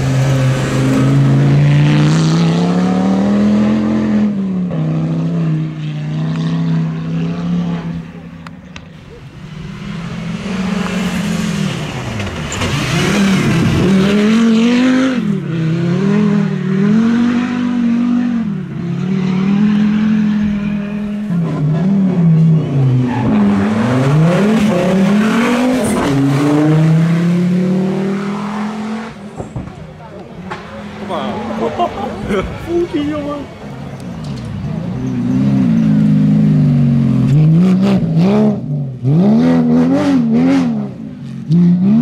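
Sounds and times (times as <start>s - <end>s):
rally car engine revving: 0.0s - 32.7s, 33.4s - 42.0s.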